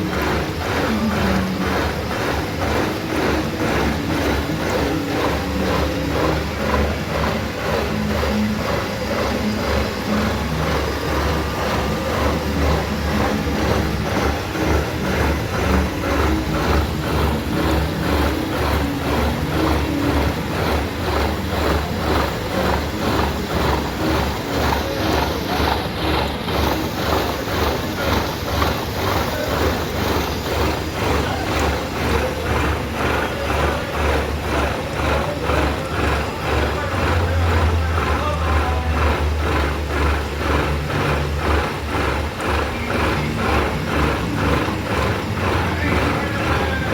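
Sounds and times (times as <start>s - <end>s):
metal lathe cutting steel: 0.0s - 46.9s.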